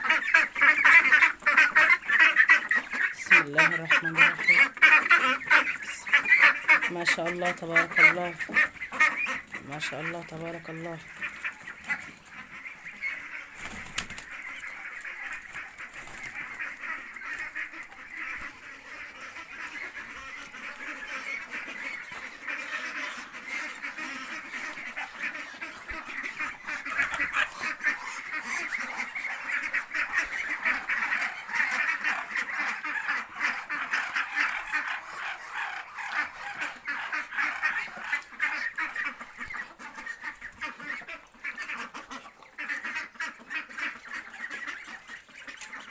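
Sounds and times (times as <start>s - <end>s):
poultry flock calling and chattering: 0.0s - 45.9s.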